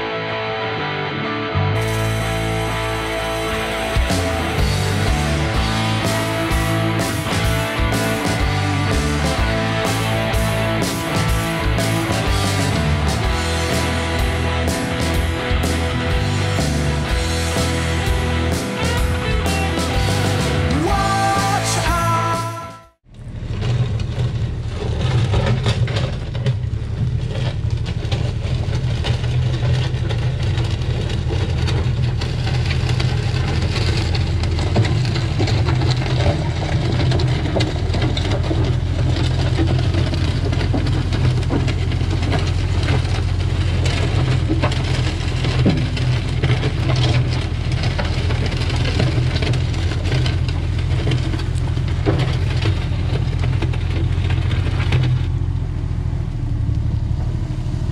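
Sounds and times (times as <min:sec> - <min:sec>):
earthmover engine running: 0:01.5 - 0:57.9.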